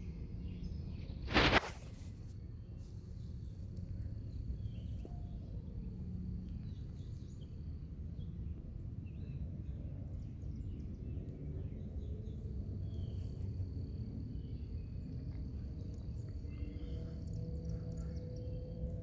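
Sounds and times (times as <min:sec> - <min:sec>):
faint bird chirps: 0:02.6 - 0:09.4, 0:10.1 - 0:19.0.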